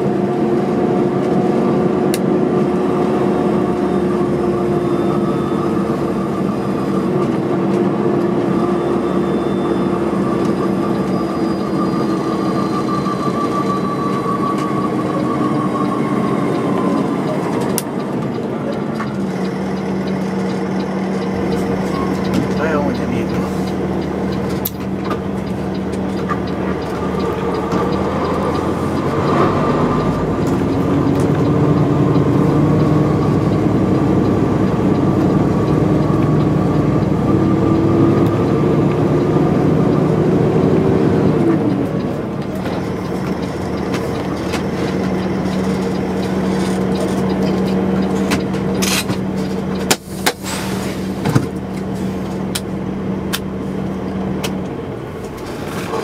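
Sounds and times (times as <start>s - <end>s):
truck diesel engine: 0.0s - 56.0s.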